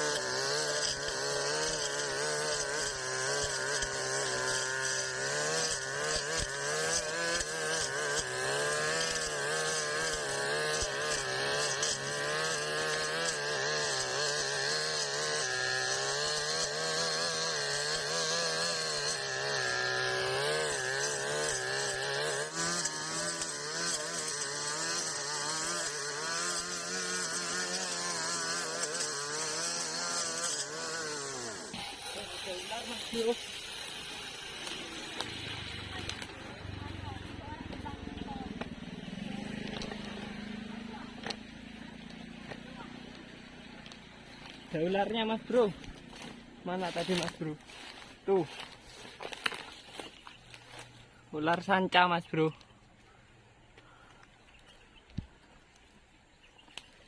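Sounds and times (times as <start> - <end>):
brush cutter engine: 0.0 - 57.0.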